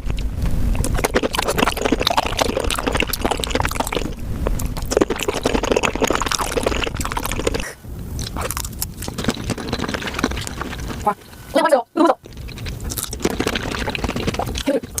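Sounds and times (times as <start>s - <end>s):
wet chewing of shrimp: 0.0s - 11.3s, 12.2s - 15.0s.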